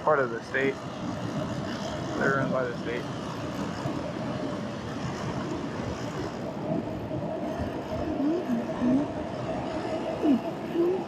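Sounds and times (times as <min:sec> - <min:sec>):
wind rush on microphone: 0:00.0 - 0:11.0
electric motor whine: 0:00.2 - 0:11.0.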